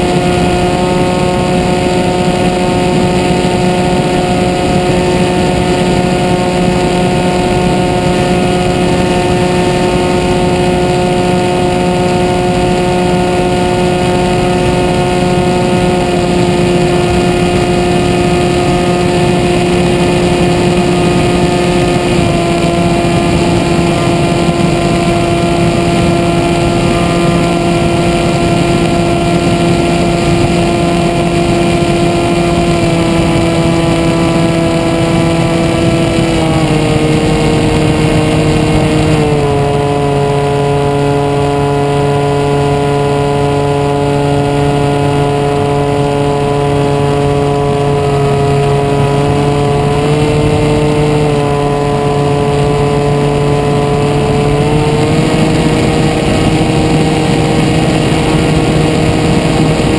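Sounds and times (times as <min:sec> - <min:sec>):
electric plane motor droning: 0:00.0 - 0:59.9.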